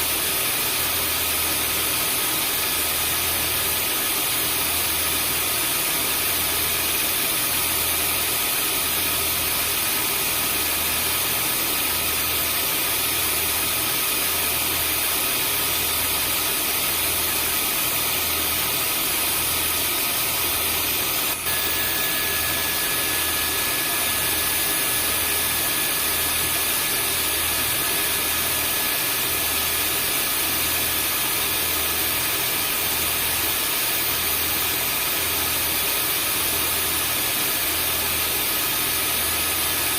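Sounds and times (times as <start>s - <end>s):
vacuum cleaner motor whining: 0.2s - 39.9s.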